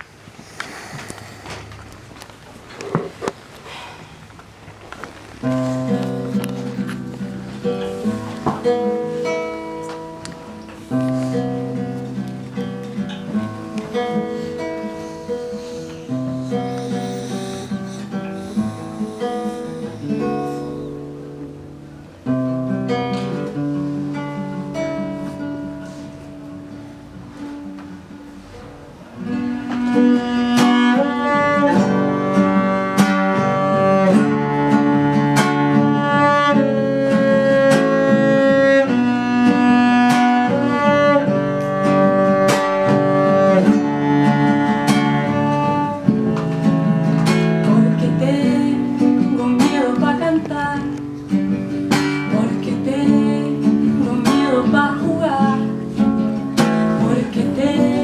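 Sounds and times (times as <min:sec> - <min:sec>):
plucked acoustic guitar: 0:01.2 - 0:58.0
long held string notes: 0:05.4 - 0:23.6, 0:29.0 - 0:58.0.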